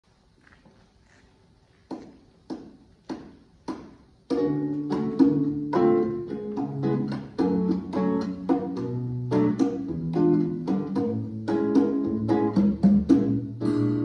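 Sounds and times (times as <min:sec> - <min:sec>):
acoustic band instrumental: 0:02.6 - 0:14.0.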